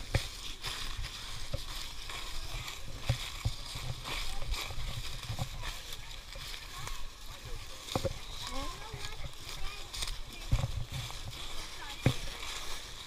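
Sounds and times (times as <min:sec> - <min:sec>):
footsteps crunching through dry leaves: 0:00.0 - 0:13.0.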